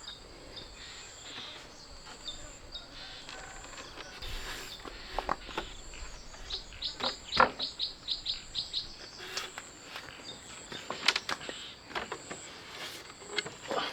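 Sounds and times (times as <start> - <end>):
insects buzzing: 0.0 - 13.9.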